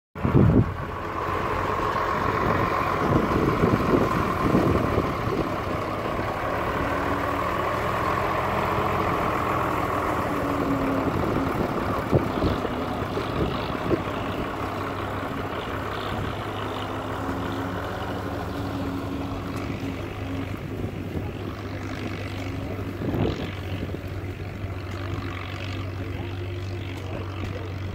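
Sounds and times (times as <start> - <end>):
wind buffeting microphone: 0.2 - 25.2
tractor engine under load: 0.2 - 27.9.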